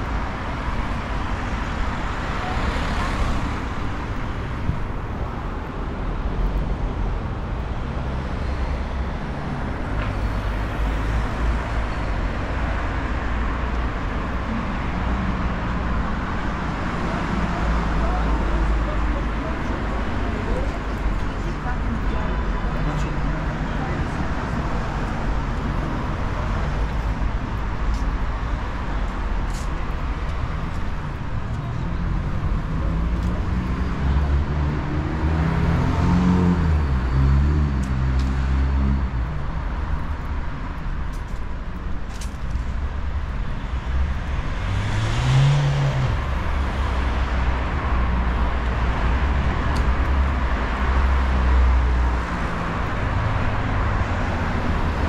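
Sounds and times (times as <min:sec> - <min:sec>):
cars driving past: 0:00.0 - 0:55.0.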